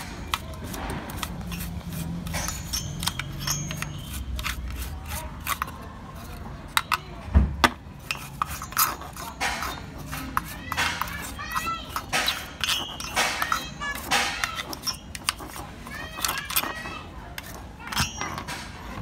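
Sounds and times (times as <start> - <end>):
brush scrubbing circuit board: 0.0 - 6.8, 7.9 - 18.1.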